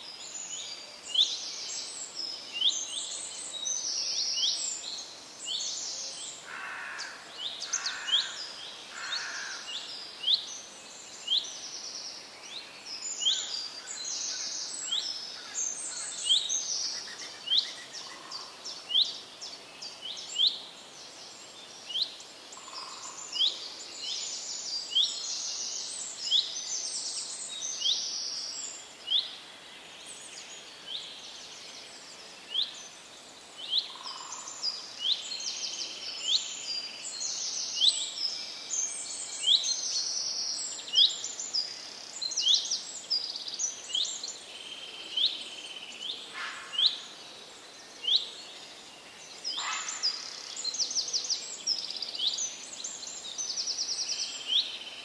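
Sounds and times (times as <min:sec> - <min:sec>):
outdoor background noise: 0:00.0 - 0:55.0
small birds chirping: 0:00.0 - 0:55.0.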